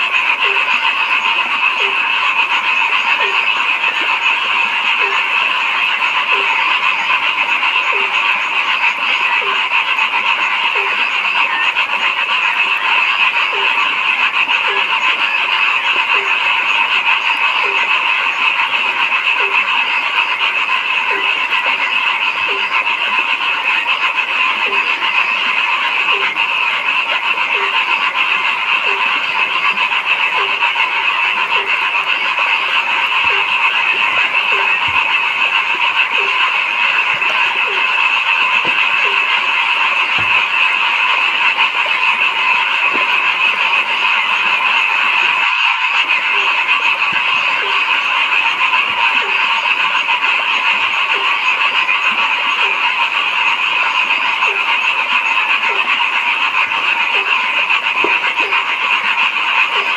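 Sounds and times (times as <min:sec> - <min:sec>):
chorus of frogs calling: 0:00.0 - 0:59.9
low-pitched frog croak: 0:00.0 - 0:59.9.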